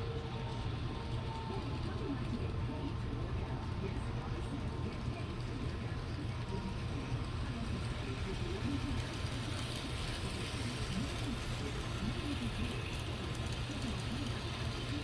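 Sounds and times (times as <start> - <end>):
faint background voices: 0.0 - 15.0
model train humming: 0.0 - 15.0.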